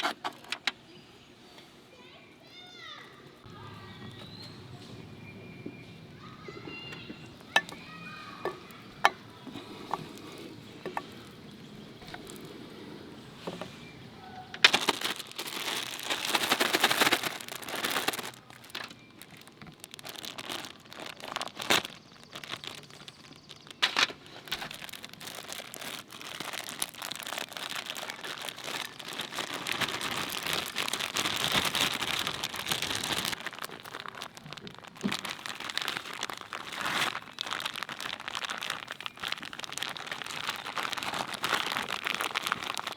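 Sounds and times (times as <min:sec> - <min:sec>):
crinkling and crackling: 0:00.0 - 0:00.8, 0:03.4 - 0:42.9.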